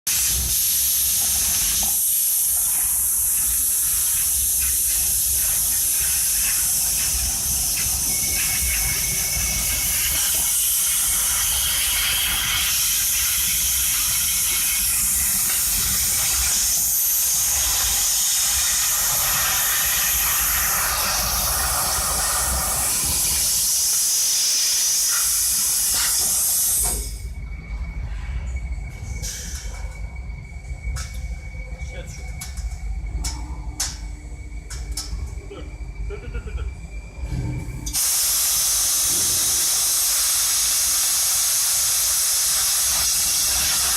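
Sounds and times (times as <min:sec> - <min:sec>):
loud steady hiss: 0:00.1 - 0:27.4, 0:28.4 - 0:43.9.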